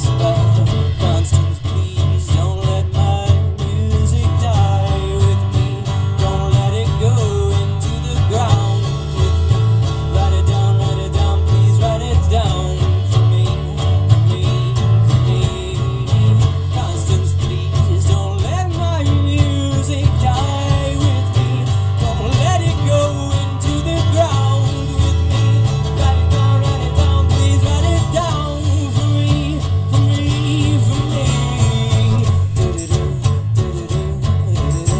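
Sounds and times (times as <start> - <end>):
guitars: 0.0 - 34.9
repeating bass beat: 0.0 - 34.9
live band playing instrumental: 4.3 - 34.9.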